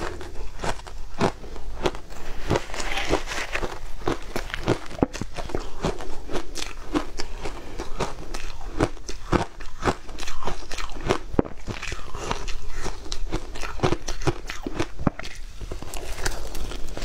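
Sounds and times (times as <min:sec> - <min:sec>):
ice crunching while chewed: 0:00.0 - 0:17.0.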